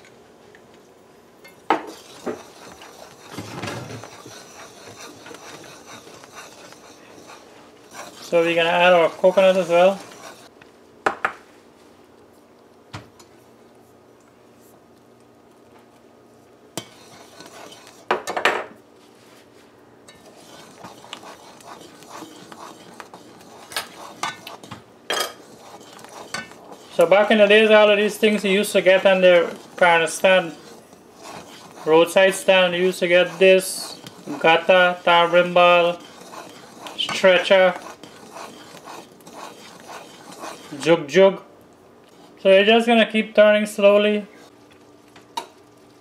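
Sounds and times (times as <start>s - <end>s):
spoon scraping and stirring thick mixture: 1.5s - 10.6s, 16.7s - 18.4s, 19.0s - 46.0s.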